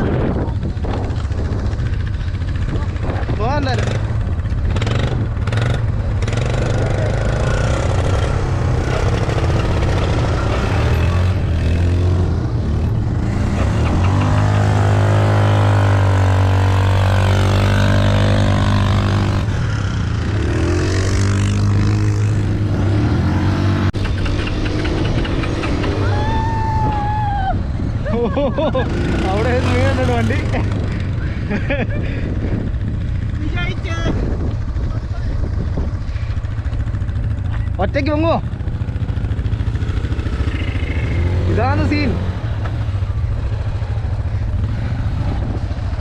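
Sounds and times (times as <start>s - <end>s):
atv engine running: 0.0s - 46.0s.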